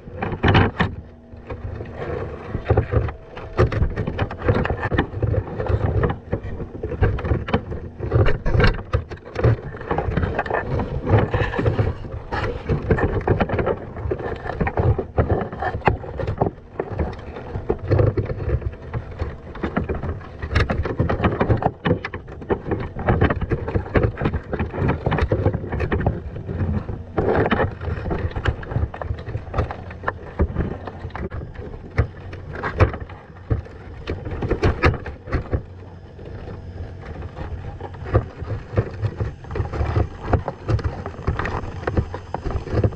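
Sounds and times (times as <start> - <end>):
crabs and wire mesh clicking: 0.0 - 42.9
underwater water churning: 0.0 - 42.9.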